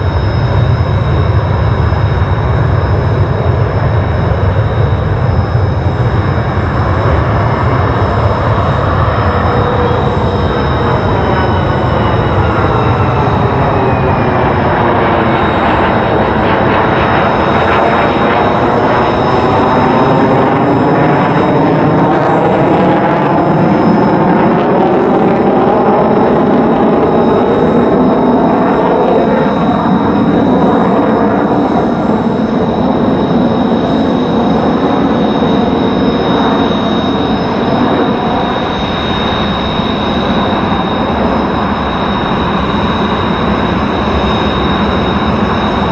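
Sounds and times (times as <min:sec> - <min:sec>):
jet engine roaring with high whine: 0:00.0 - 0:45.9.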